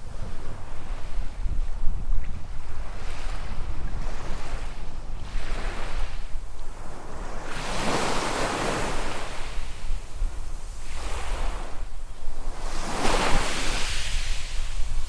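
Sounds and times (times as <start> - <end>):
wind rumble on microphone: 0.0 - 15.0
small waves breaking on sand: 0.1 - 15.0.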